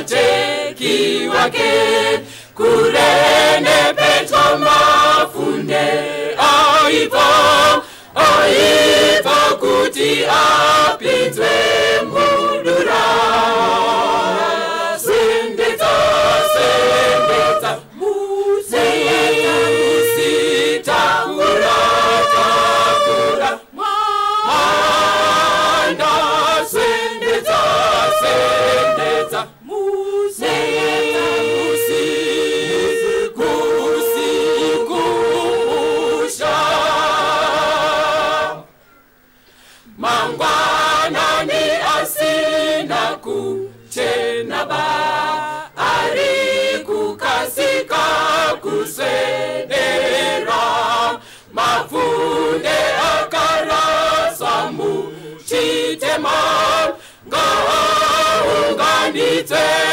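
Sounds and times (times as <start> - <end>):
choir singing a cappella: 0.0 - 38.8, 39.8 - 59.9.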